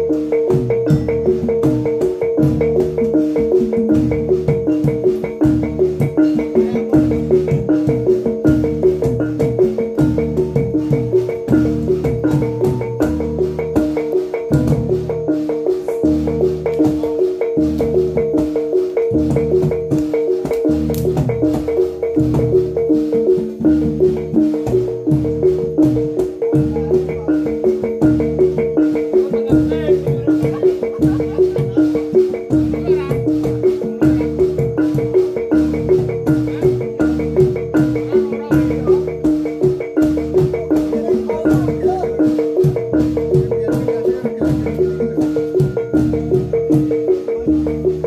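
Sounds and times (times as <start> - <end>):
kettle gongs fast pattern: 0.0 - 48.0
low drum and gong beat: 0.0 - 48.0.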